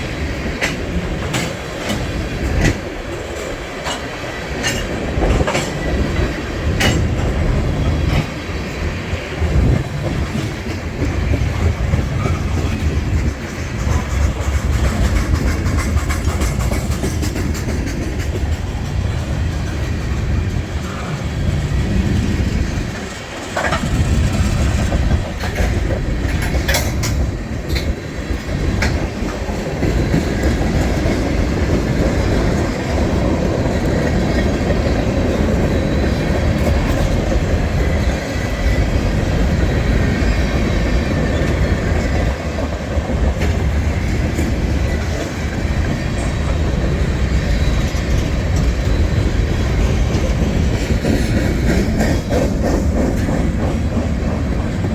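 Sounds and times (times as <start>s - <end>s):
freight train rumble: 0.0s - 54.9s
train wheels clicking over rail joints: 0.0s - 54.9s.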